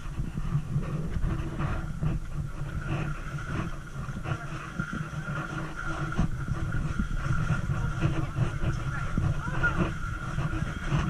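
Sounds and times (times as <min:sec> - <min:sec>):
group footsteps and shuffling: 0:00.0 - 0:11.0
low hum: 0:00.0 - 0:11.0.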